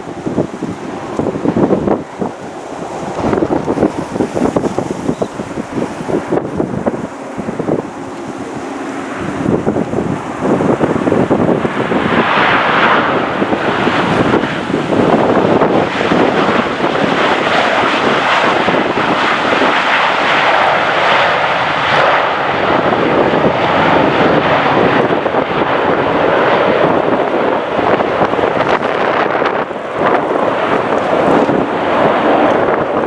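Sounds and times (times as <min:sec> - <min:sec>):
airliner engines passing: 0:00.0 - 0:33.0
wind buffeting on microphone: 0:00.0 - 0:33.0.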